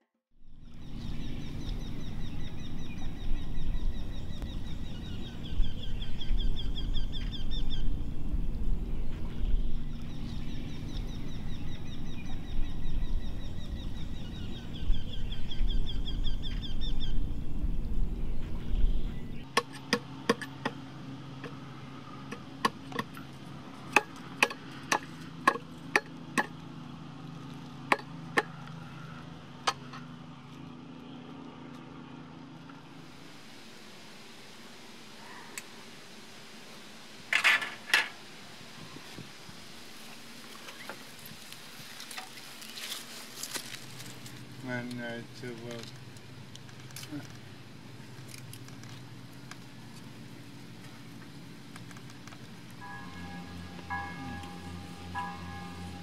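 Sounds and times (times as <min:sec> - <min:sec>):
low drone: 0:00.4 - 0:38.0, 0:42.9 - 0:56.0.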